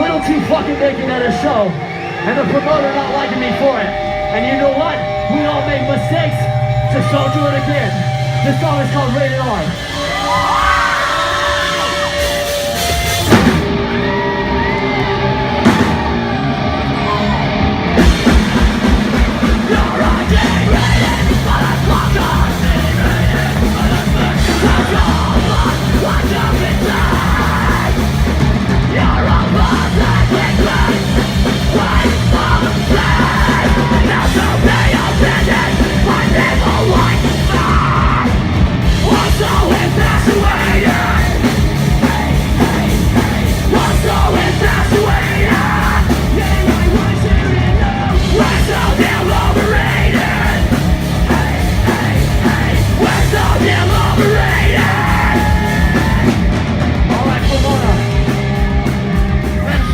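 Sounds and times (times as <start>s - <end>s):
driving drums: 0.0s - 59.9s
live punk rock band: 0.0s - 59.9s
vocals: 0.0s - 59.9s.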